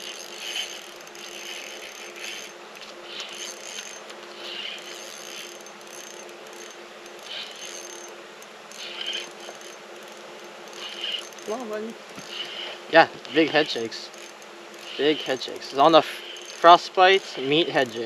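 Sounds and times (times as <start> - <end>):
fishing reel ticking: 0.0 - 18.0
steady low hum: 0.0 - 18.0.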